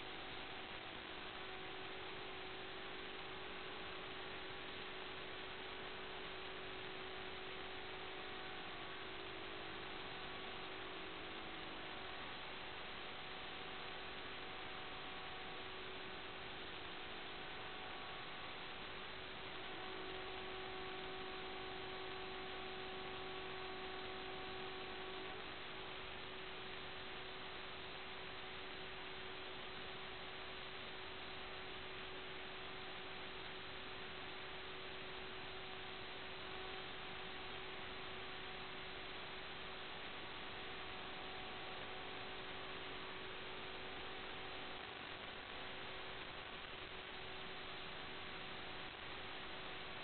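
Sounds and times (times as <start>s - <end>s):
faint hum tone: 0.0s - 50.0s
static hiss: 0.0s - 50.0s.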